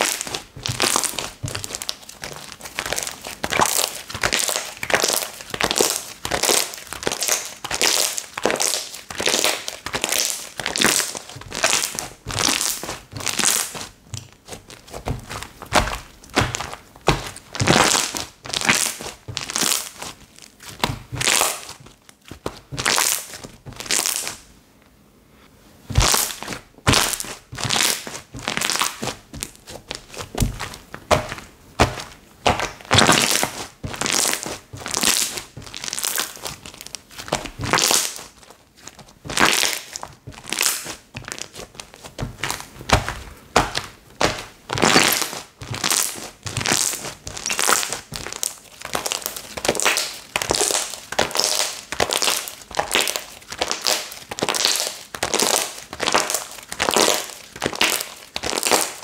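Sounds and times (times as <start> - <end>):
slime squelching: 0.0 - 24.5, 25.9 - 59.0.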